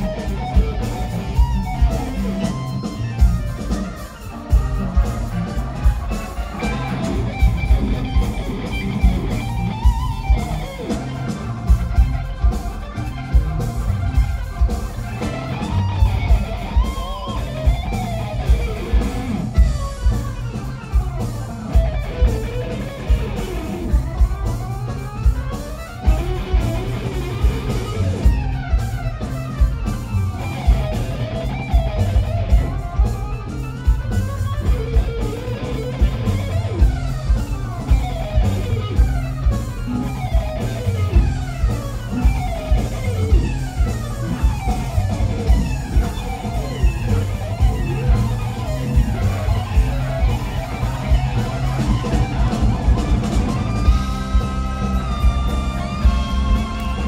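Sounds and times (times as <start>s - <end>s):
bass guitar: 0.0s - 57.0s
drum kit beat: 0.0s - 57.0s
electric guitar bending notes: 0.0s - 57.0s.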